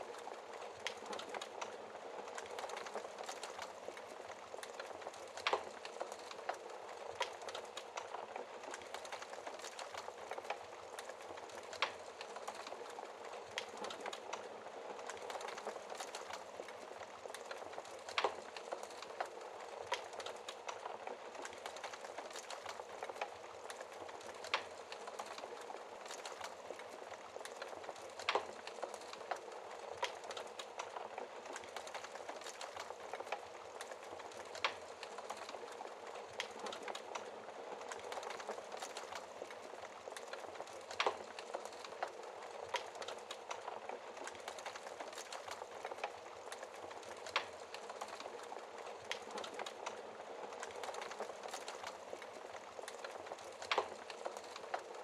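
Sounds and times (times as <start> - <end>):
wood fire crackling: 0.0 - 55.0
fire popping: 0.1 - 55.0.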